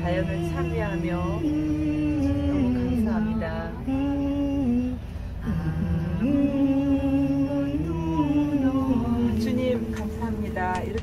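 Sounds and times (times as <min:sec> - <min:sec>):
women singing slow chant: 0:00.0 - 0:11.0.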